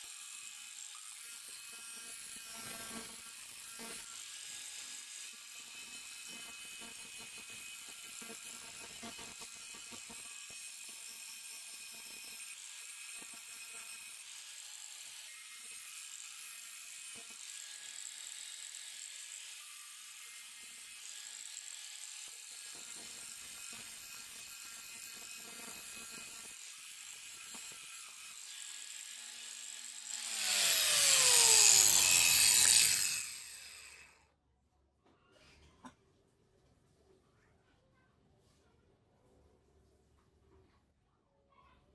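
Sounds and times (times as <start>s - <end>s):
angle grinder grinding metal: 0.0s - 34.2s.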